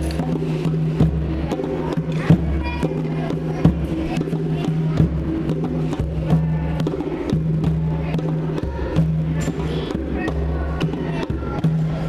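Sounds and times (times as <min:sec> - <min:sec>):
hand drums slapping: 0:00.0 - 0:12.0.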